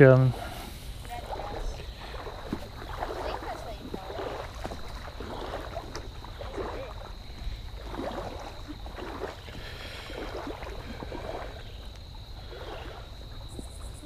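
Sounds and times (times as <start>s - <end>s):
creek water rippling: 0.0s - 14.0s.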